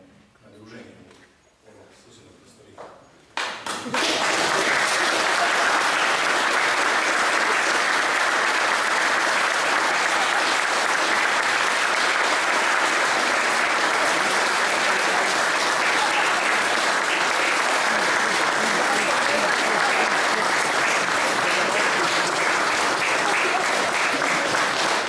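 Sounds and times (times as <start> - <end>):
audience applauding: 3.4 - 25.0.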